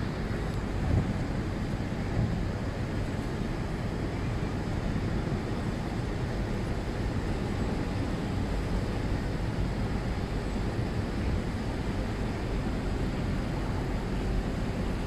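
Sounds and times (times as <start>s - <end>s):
churning river water: 0.0s - 15.0s
wind buffeting microphone: 0.0s - 15.0s.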